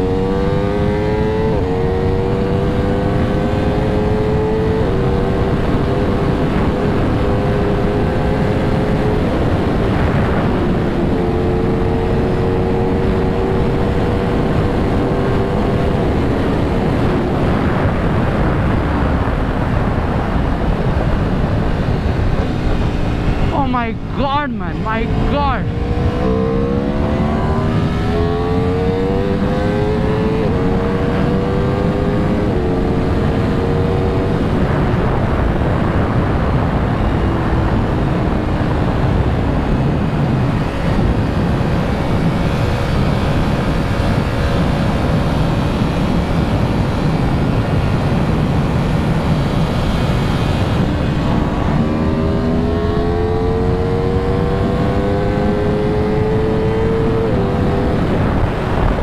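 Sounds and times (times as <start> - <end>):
motorcycle engine accelerating: 0.0 - 59.0
rushing wind noise: 0.0 - 59.0.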